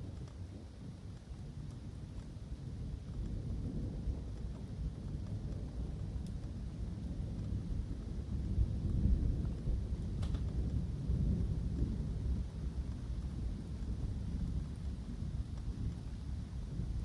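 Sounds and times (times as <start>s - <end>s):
faint hiss of rain: 0.0s - 17.0s.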